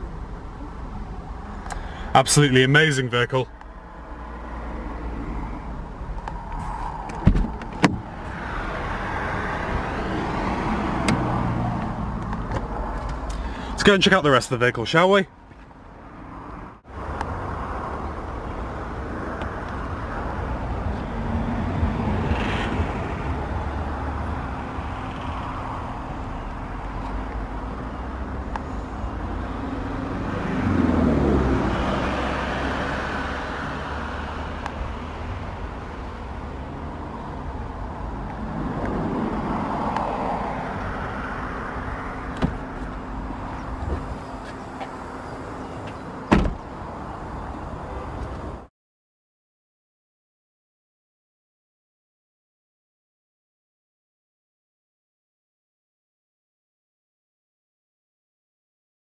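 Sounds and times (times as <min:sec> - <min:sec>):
road traffic rumble: 0:00.0 - 0:48.7
vehicles passing by: 0:00.0 - 0:48.7.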